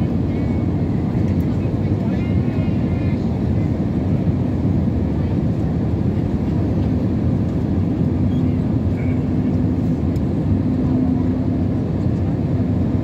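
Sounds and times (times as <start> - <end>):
jet engine and airflow roar: 0.0 - 13.0.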